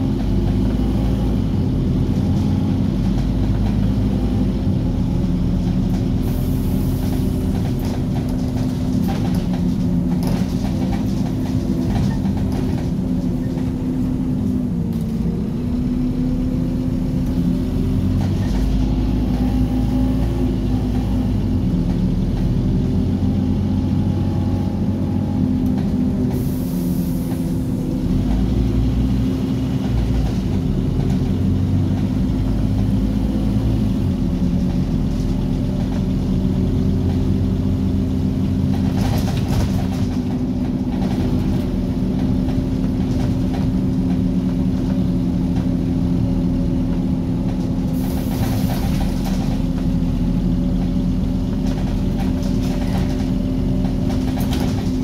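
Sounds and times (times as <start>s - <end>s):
bus engine whine: 0.0s - 55.0s.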